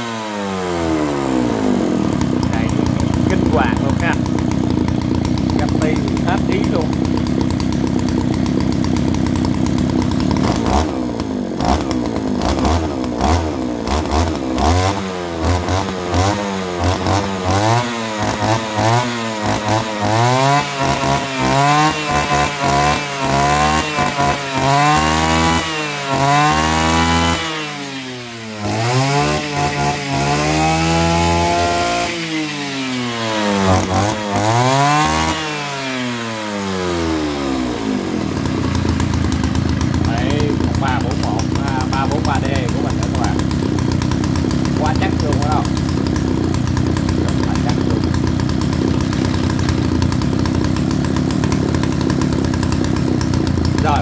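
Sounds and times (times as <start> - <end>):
brush cutter engine revving: 0.0 - 54.0.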